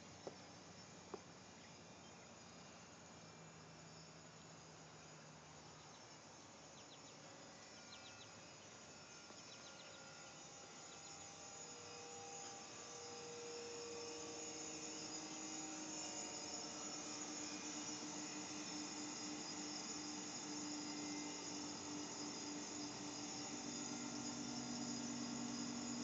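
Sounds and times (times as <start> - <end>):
heat pump humming: 0.0 - 26.0.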